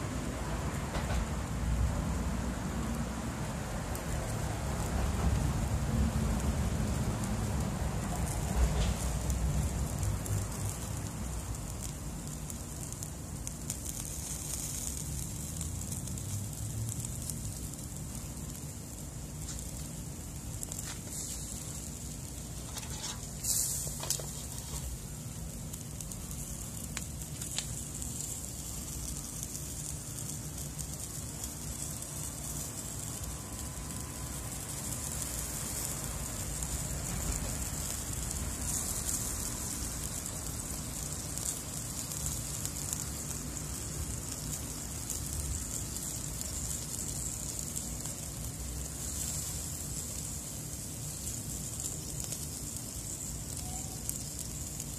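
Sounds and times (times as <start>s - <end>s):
fish sizzling over charcoal: 0.0s - 54.9s.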